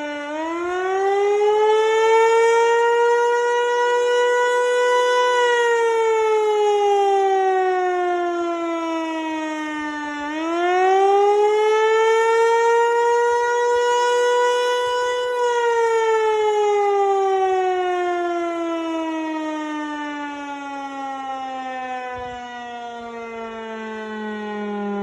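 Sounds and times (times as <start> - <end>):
warning siren wailing: 0.0 - 25.0.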